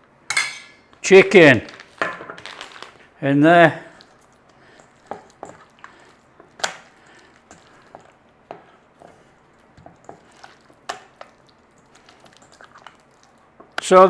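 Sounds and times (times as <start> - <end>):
wet squishes of meat: 1.0 - 14.0.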